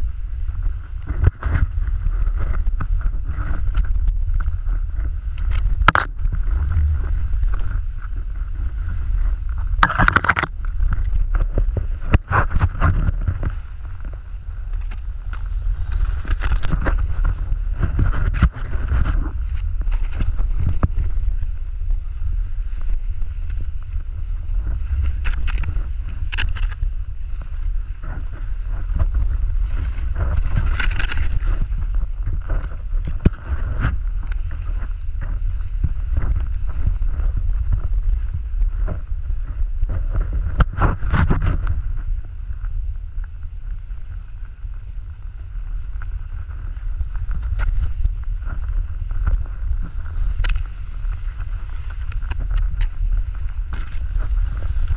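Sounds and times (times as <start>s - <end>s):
snowboard scraping over snow: 0.0s - 54.9s
wind buffeting microphone: 0.0s - 54.9s.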